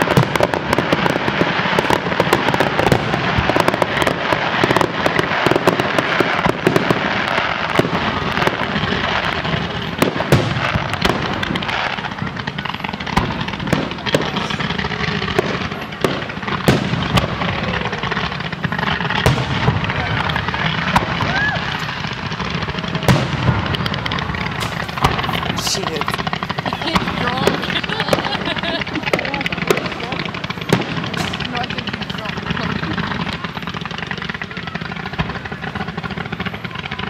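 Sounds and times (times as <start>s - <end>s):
fireworks crackling: 0.0s - 37.0s
fireworks shells bursting: 0.0s - 37.0s.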